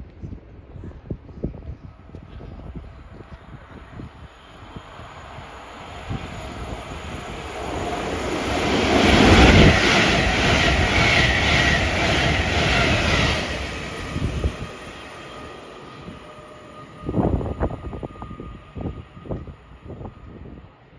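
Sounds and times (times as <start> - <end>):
train passing on track: 1.8 - 20.9.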